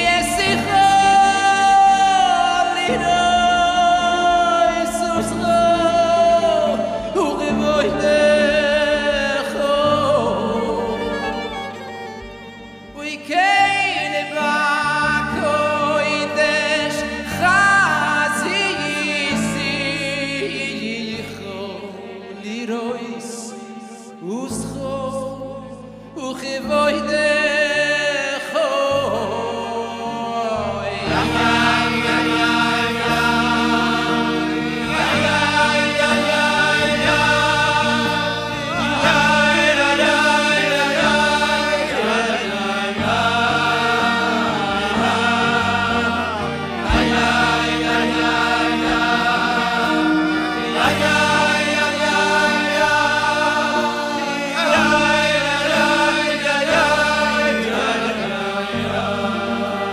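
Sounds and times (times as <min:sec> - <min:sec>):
men singing into microphones: 0:00.0 - 0:11.7, 0:13.0 - 0:59.9
amplified instrumental accompaniment: 0:00.0 - 0:59.9.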